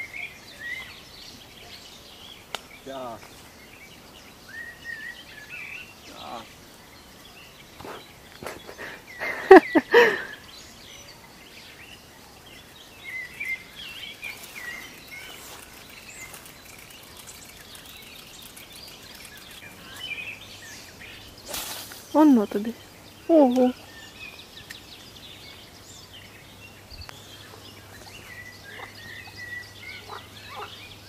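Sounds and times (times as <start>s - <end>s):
birds chirping faintly: 0.0s - 31.0s.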